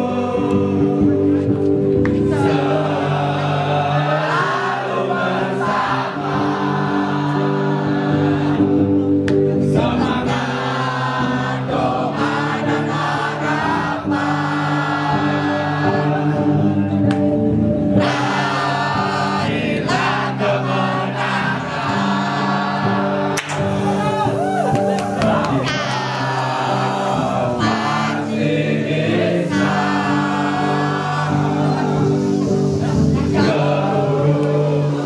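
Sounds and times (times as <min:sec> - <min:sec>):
group of people singing: 0:00.0 - 0:35.0
held backing chords: 0:00.0 - 0:35.0.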